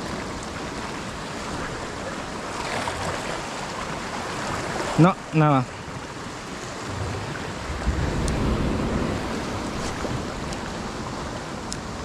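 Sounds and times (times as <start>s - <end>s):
sea surf against rocks: 0.0s - 12.0s
wind buffeting microphone: 0.0s - 12.0s.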